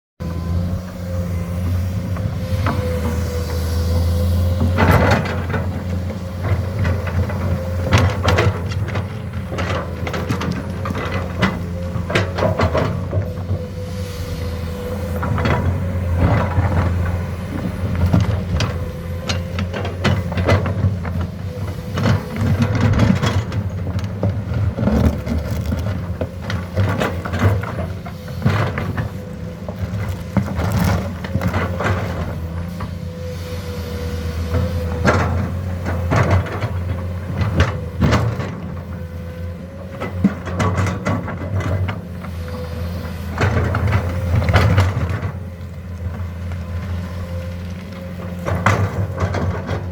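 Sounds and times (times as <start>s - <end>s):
excavator clanks and knocks: 0.2s - 49.9s
excavator diesel engine whining: 0.2s - 49.9s.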